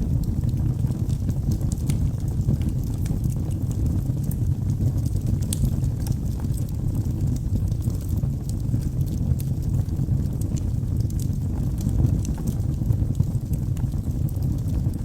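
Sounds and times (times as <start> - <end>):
fire crackles and pops: 0.0 - 15.0
flames rumbling: 0.0 - 15.0.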